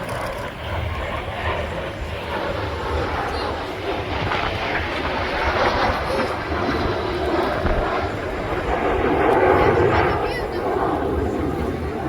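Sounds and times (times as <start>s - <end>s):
propeller aircraft engine running: 0.0s - 12.0s.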